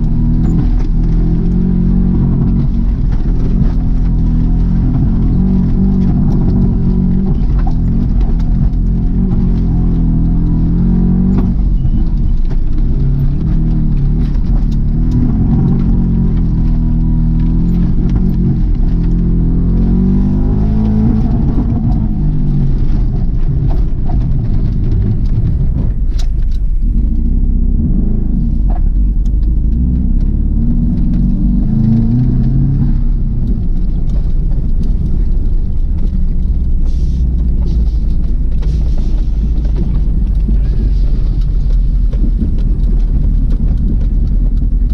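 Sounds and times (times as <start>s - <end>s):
turbocharged car engine revving: 0.0s - 44.9s.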